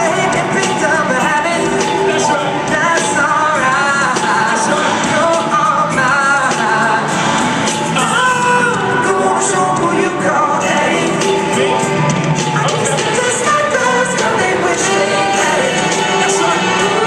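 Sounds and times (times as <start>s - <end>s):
live pop band with singer: 0.0s - 17.0s.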